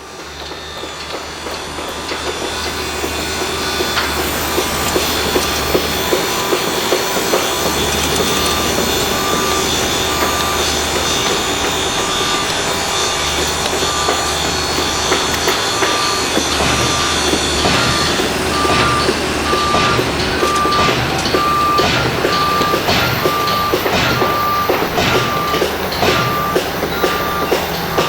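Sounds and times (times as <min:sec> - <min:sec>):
machinery noise with low hum: 0:00.0 - 0:28.0
beeping: 0:03.5 - 0:28.0
sharp knocks: 0:03.9 - 0:28.0.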